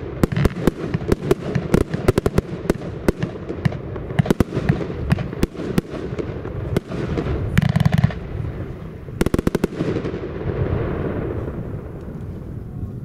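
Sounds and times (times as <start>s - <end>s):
firework bangs: 0.0s - 12.6s.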